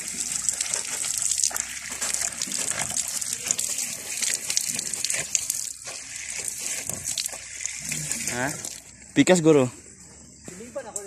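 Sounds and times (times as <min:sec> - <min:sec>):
water gushing from a tap: 0:00.0 - 0:09.0.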